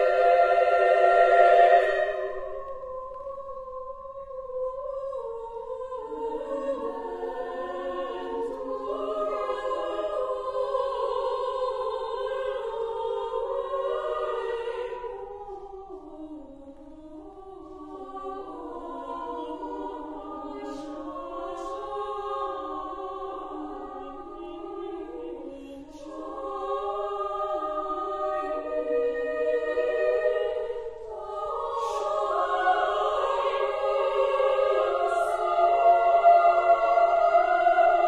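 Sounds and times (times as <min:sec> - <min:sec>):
women's choir singing: 0:00.0 - 0:38.0.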